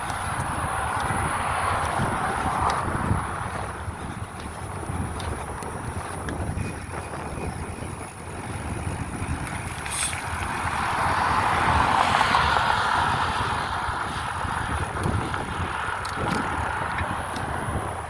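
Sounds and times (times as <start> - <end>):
passing vehicle road noise: 0.0 - 18.0
wind buffeting microphone: 0.0 - 18.0.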